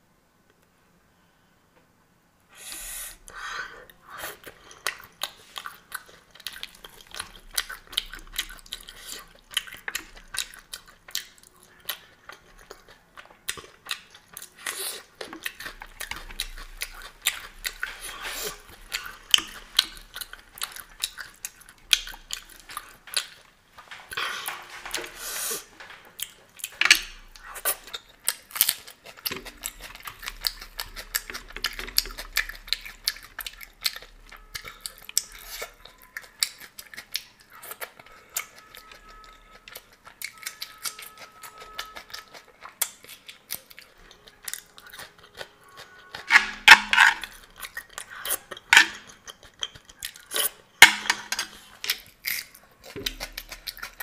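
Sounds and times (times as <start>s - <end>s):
wet chewing and mouth smacks: 3.3s - 25.1s, 25.8s - 50.8s, 51.6s - 54.0s.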